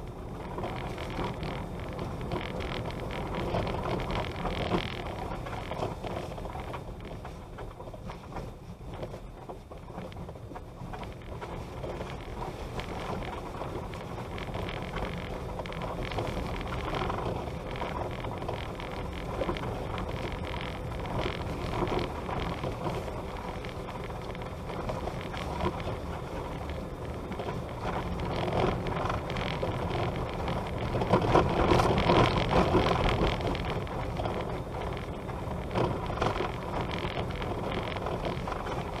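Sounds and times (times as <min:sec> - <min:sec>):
vehicle rumbling slowly: 0:00.0 - 0:39.0.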